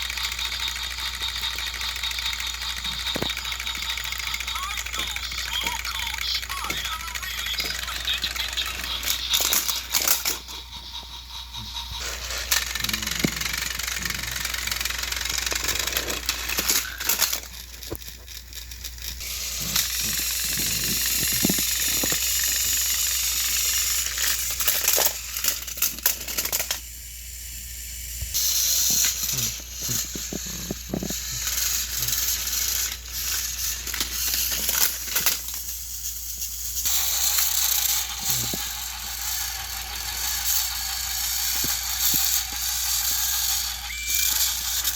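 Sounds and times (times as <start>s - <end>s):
wheels rattling on plastic track: 0.0s - 27.0s, 28.3s - 44.9s
toy train motors whirring: 0.0s - 44.9s.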